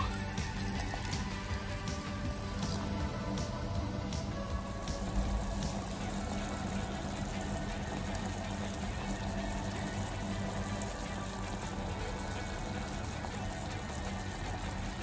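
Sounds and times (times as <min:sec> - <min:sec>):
background music: 0:00.0 - 0:15.0
sauce bubbling and crackling: 0:00.0 - 0:15.0.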